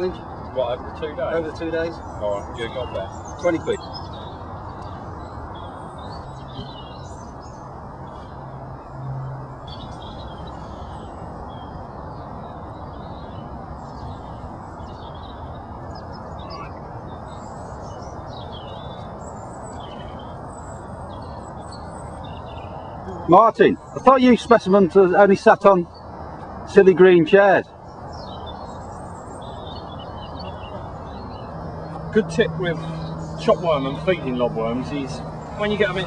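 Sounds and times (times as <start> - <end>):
birds chirping and calling: 0.0 - 36.0
rushing background noise: 0.0 - 36.0.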